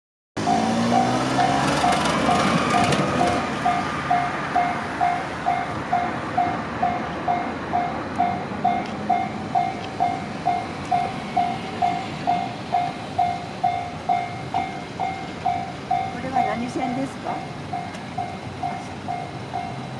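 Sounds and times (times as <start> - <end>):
passing vehicle: 0.4 - 19.9.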